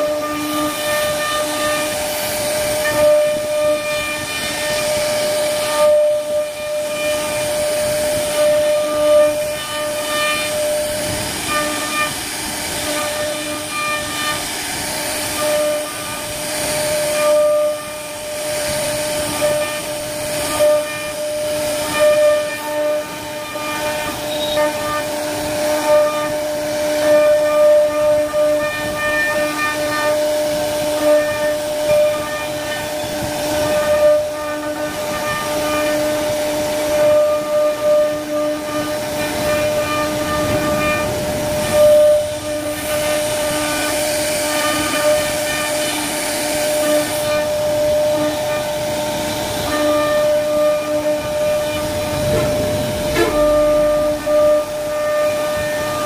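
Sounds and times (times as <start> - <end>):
bit cutting wood: 0.0 - 56.0
router spindle whining: 0.0 - 56.0.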